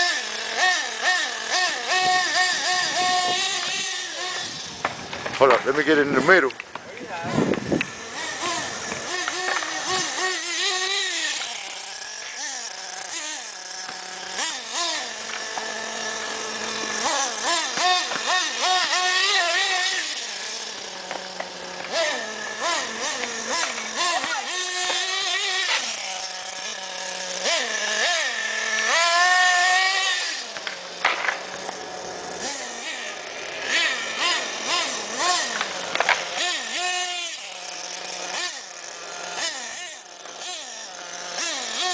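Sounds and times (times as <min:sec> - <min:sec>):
model car engine revving: 0:00.0 - 0:41.9.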